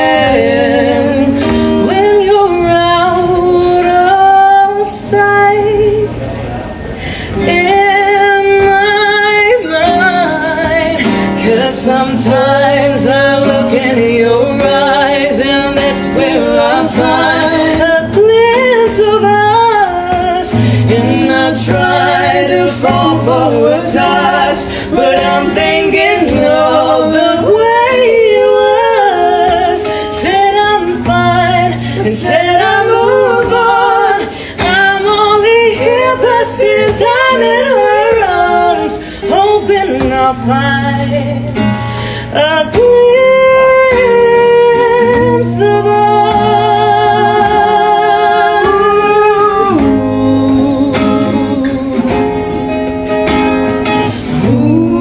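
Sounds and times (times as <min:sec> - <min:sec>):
strummed acoustic guitar: 0:00.0 - 0:55.0
person singing: 0:07.3 - 0:52.7, 0:54.2 - 0:55.0.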